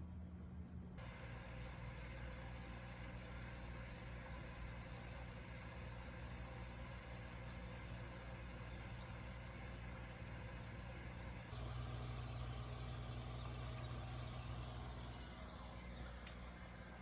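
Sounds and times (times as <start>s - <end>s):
aquarium pump humming: 1.0s - 17.0s.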